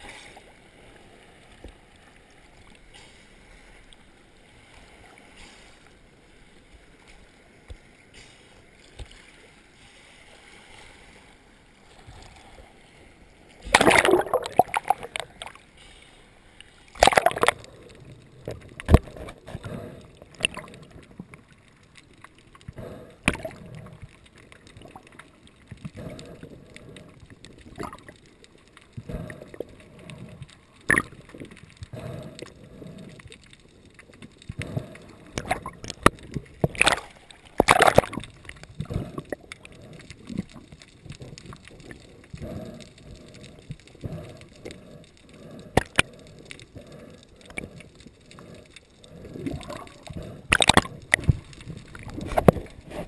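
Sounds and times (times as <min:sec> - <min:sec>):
water splashing and sloshing: 0:00.0 - 0:53.0.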